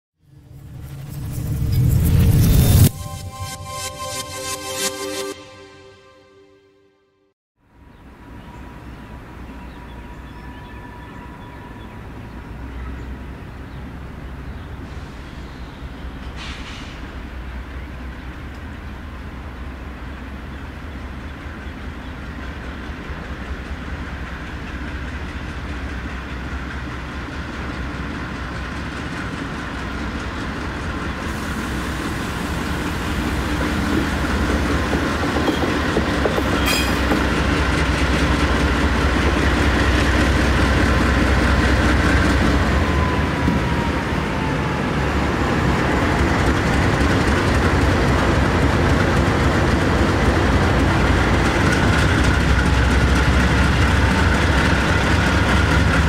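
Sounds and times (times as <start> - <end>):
diesel locomotive engine rumble: 7.8 - 56.0.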